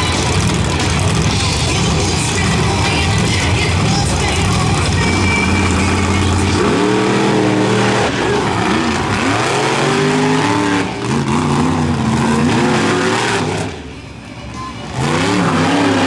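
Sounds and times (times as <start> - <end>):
truck engines revving hard: 0.0 - 16.0.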